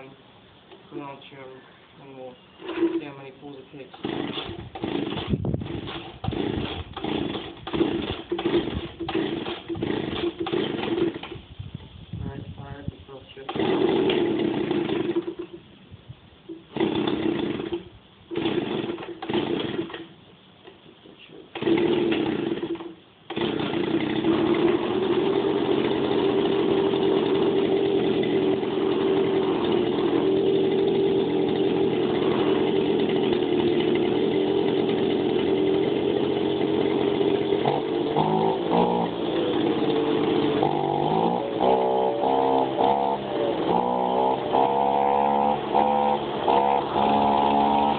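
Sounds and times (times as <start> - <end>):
two-stroke engine starting and running: 2.2 - 11.6, 13.3 - 15.7, 16.5 - 20.2, 21.5 - 47.9.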